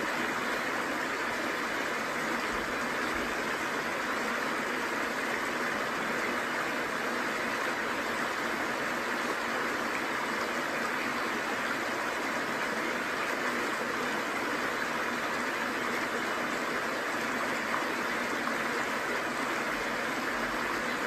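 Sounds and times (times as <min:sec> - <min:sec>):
stream and small waterfall: 0:00.0 - 0:21.0.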